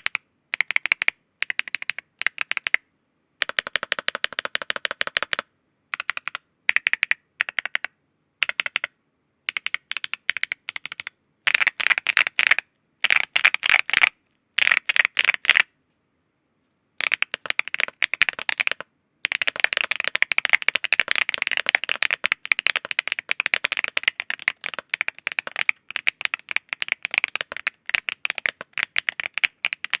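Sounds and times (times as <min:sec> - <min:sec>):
mechanical keyboard typing: 0:00.0 - 0:02.8, 0:03.4 - 0:05.4, 0:06.0 - 0:08.9, 0:09.5 - 0:15.6, 0:17.0 - 0:30.0.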